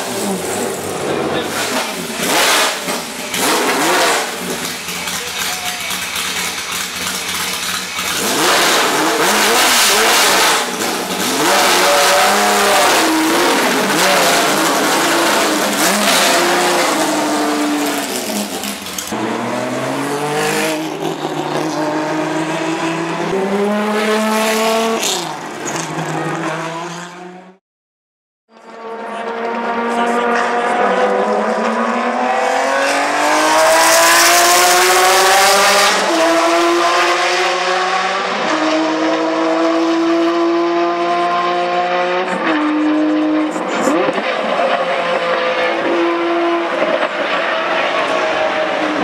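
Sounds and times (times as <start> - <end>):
racing engine accelerating: 0.1 - 27.6, 28.6 - 49.0.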